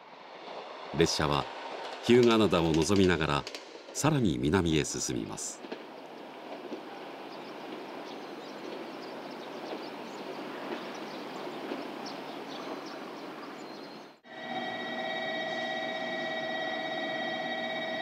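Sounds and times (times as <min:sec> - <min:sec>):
distant train rushing on rails: 0:00.0 - 0:18.0.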